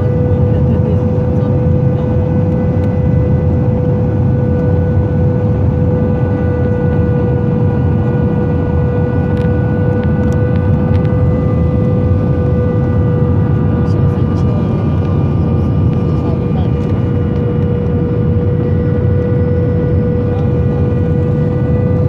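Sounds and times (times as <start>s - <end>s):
aircraft cabin airflow and engine noise: 0.0s - 22.0s
steady whine: 0.0s - 22.0s.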